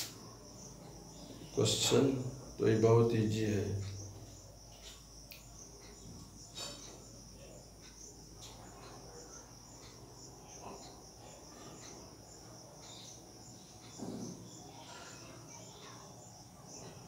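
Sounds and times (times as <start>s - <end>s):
faint crickets chirping: 0.0s - 17.0s.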